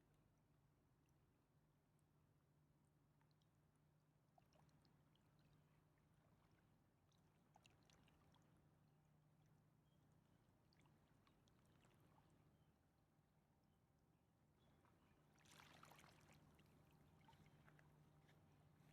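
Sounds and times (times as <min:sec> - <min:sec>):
low steady hum: 0:00.0 - 0:18.9
river water lapping and trickling: 0:00.1 - 0:18.9.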